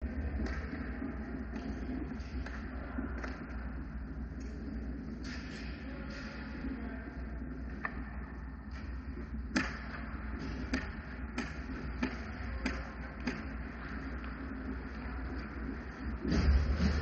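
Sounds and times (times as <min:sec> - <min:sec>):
low steady hum: 0:00.0 - 0:17.0
hockey sticks and puck clacking: 0:00.1 - 0:06.4, 0:07.6 - 0:16.6.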